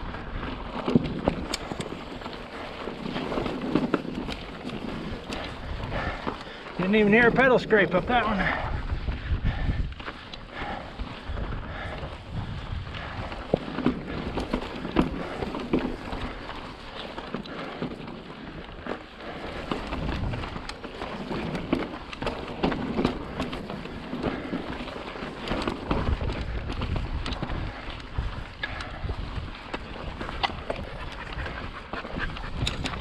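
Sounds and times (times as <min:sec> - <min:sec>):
bike knocks and rattles: 0:00.0 - 0:33.0
bike tyres grinding on rock: 0:00.0 - 0:33.0
wind rumbling on microphone: 0:00.0 - 0:33.0.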